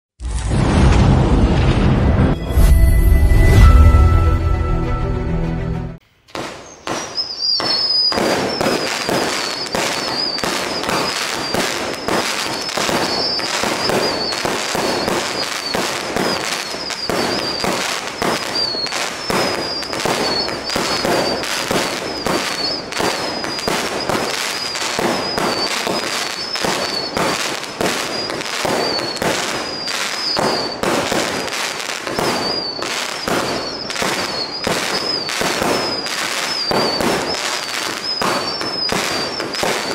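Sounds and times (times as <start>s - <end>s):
fireworks launches and bangs: 0.2s - 2.7s, 6.3s - 39.9s
warbling firework whistle: 2.2s - 5.1s, 6.4s - 39.9s.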